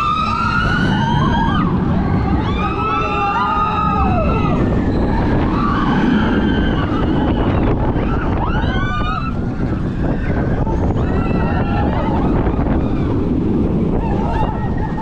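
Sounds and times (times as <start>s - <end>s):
roller coaster whining tones: 0.0s - 15.0s
rumble of wind and track: 0.0s - 15.0s.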